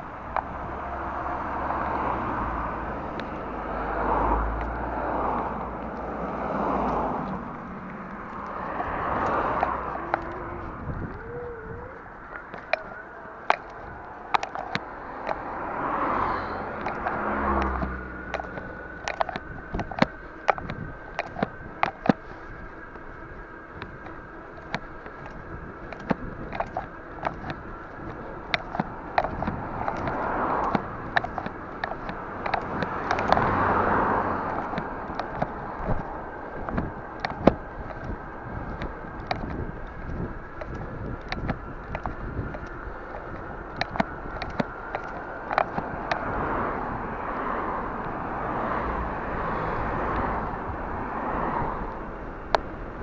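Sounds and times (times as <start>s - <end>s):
bicycle clicks and rattles: 0.0s - 53.0s
bicycle tyre noise on road: 0.0s - 53.0s
car passing: 0.0s - 53.0s
wind: 0.0s - 53.0s.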